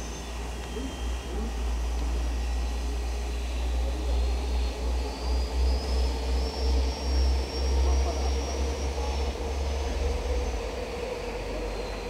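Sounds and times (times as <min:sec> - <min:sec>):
faint high whine: 0:00.0 - 0:12.0
steam train rumbling: 0:00.0 - 0:12.0.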